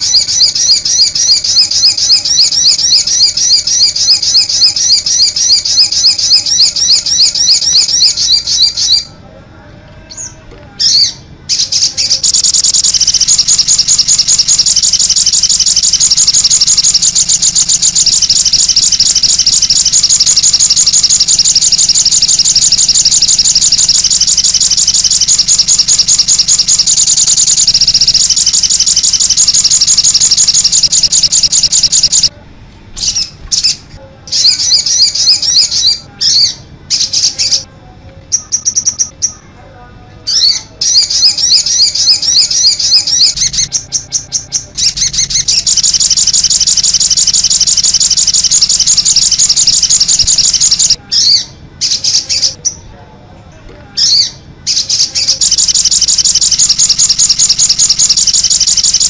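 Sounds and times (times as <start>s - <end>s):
bird chirping: 0.0s - 9.1s, 10.1s - 32.3s, 33.0s - 37.7s, 38.3s - 39.5s, 40.3s - 52.8s, 54.0s - 59.0s.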